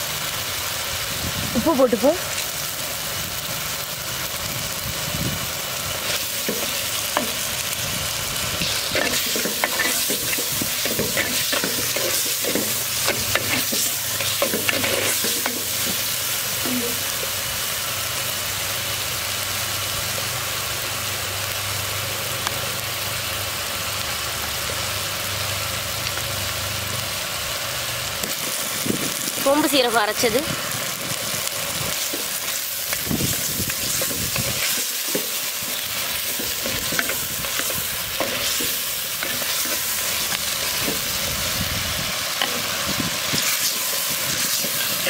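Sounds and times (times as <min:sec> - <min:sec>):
masala sizzling in a pot: 0:00.0 - 0:45.0.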